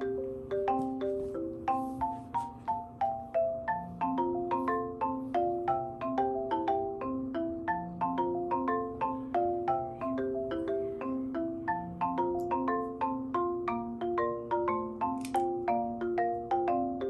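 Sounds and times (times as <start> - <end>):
marimba melody: 0.0 - 17.0.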